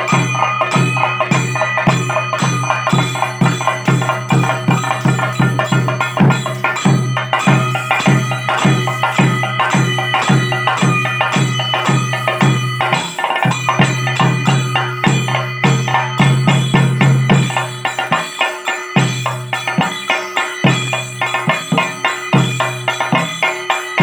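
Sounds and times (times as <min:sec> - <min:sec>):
drum beaten with sticks: 0:00.0 - 0:24.0.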